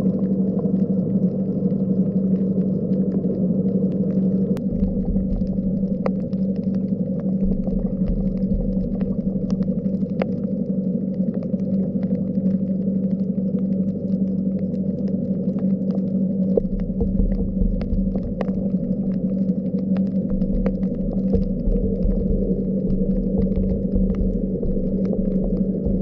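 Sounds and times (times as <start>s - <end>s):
sharp underwater clicks: 0.0s - 26.0s
underwater low drone: 0.0s - 26.0s.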